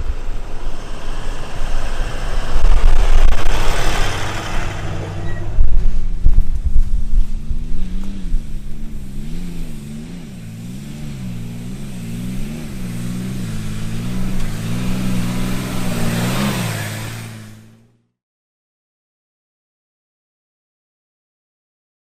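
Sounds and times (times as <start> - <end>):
wind rumbling on microphone: 0.0 - 17.7
engine revving: 0.0 - 18.1.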